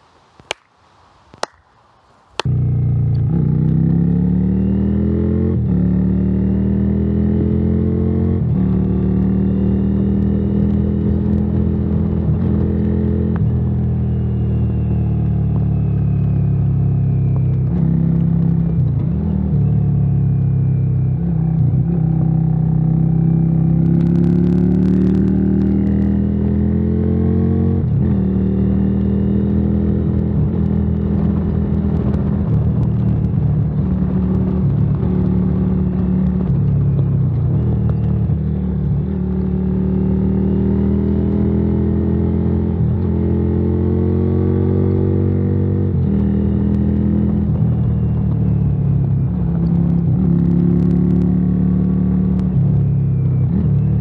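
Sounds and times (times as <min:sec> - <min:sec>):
motorcycle engine accelerating: 0:02.4 - 0:54.0.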